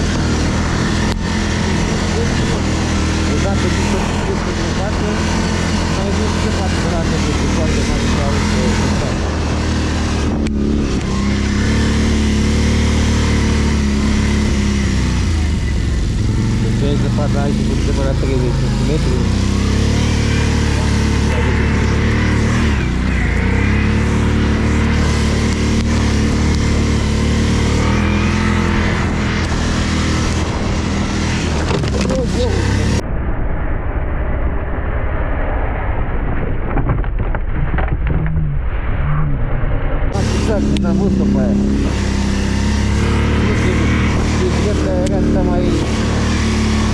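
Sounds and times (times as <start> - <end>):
atv engine running: 0.0 - 33.0, 40.1 - 46.9.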